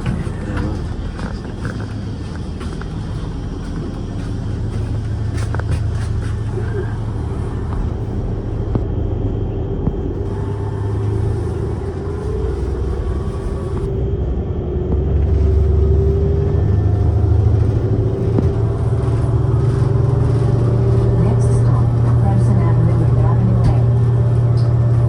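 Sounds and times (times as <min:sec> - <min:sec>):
bus engine drone: 0:00.0 - 0:25.0.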